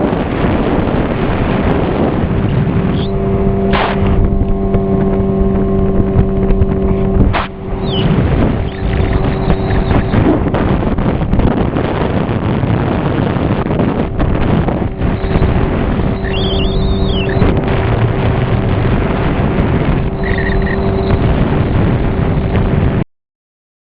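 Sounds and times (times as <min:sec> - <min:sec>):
motorboat engine drone: 0:00.0 - 0:23.0
wind noise on microphone: 0:00.0 - 0:23.0.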